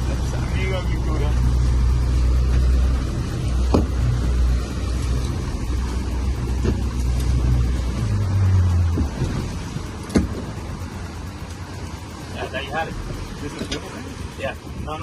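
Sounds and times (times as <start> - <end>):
outboard engines droning: 0.0 - 15.0.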